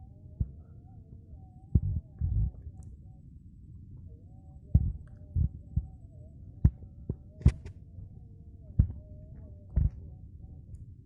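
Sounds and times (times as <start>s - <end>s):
faint wavering hum: 0.0s - 11.0s.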